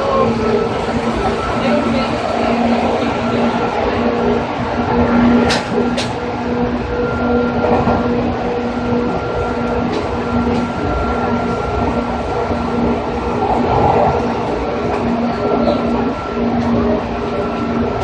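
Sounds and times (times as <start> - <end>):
constant motor hum: 0.0 - 18.0
electric train rumble: 0.0 - 18.0.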